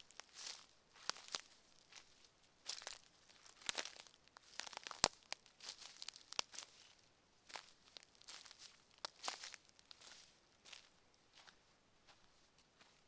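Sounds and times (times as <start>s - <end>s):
footsteps crunching on forest path: 0.0s - 13.0s.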